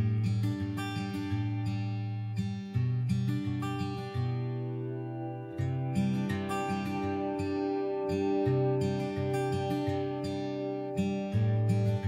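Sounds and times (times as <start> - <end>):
acoustic guitar plucked notes: 0.0 - 12.0.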